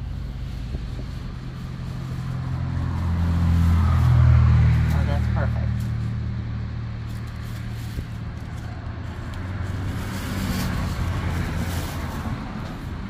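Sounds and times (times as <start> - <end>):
plastic bag rustling: 0.0 - 4.9, 6.8 - 13.0.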